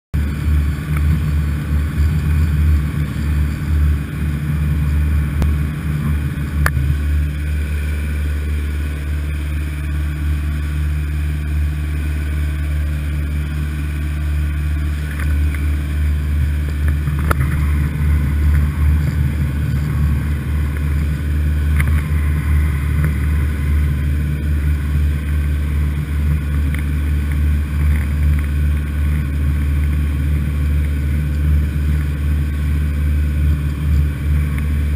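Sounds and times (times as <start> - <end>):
boat engine droning: 0.2 - 34.9.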